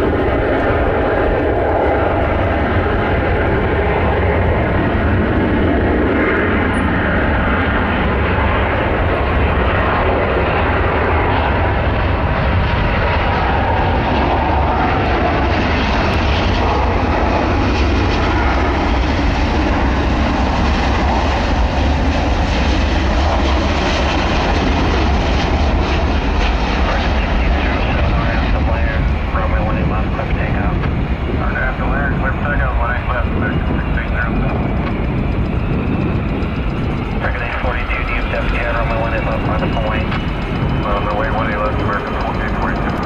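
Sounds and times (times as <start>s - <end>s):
jet engine and airflow rumble: 0.0s - 43.0s.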